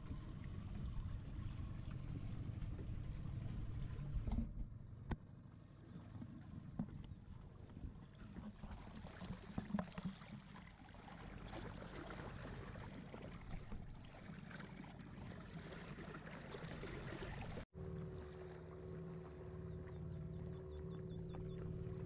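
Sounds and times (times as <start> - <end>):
boat engine rumbling: 0.0 - 9.6, 10.4 - 22.0
water rushing along hull: 0.0 - 22.0.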